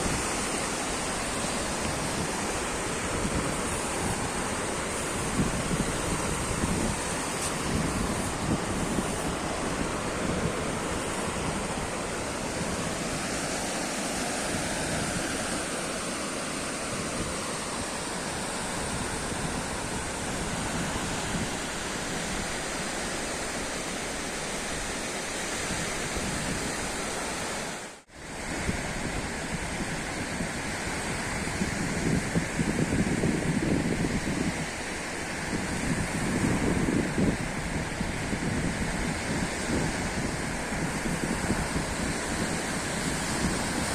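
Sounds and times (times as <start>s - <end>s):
wind buffeting microphone: 0.0s - 27.1s, 28.1s - 43.9s
sea surf washing: 0.0s - 43.9s.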